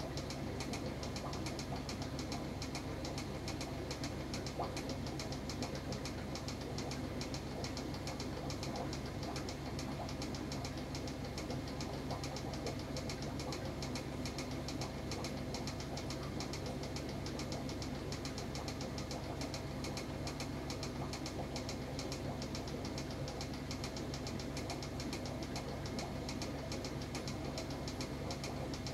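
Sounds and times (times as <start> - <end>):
small machine humming: 0.0 - 28.9.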